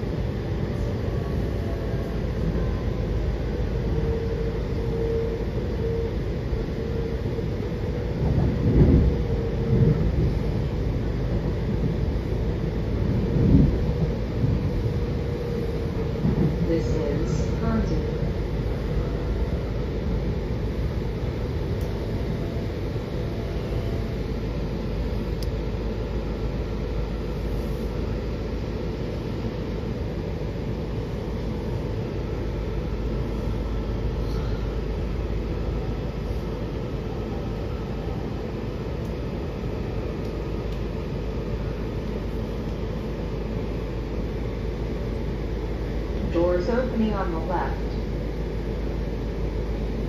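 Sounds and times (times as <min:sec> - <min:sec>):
train motor noise: 0:00.0 - 0:50.0
train wheels rumbling on rails: 0:00.0 - 0:50.0.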